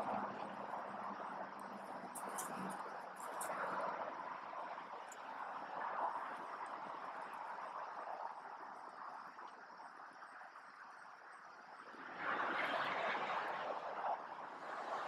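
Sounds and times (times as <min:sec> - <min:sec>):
highway traffic: 0:00.0 - 0:15.0.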